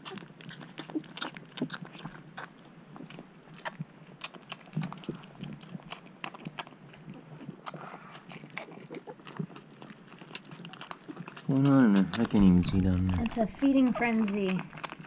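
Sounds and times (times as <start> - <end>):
puppies suckling: 0.0 - 15.0.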